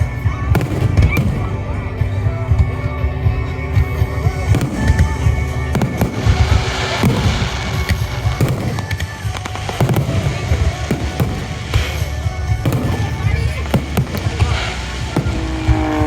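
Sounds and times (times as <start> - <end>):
fireworks booming and cracking: 0.0 - 16.0
music: 0.0 - 16.0.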